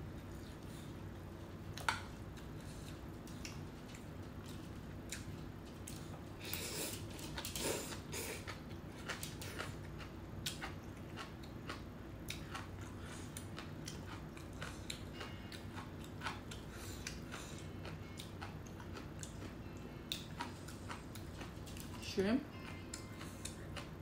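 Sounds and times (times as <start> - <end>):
close chewing: 1.7 - 22.0, 22.6 - 24.0.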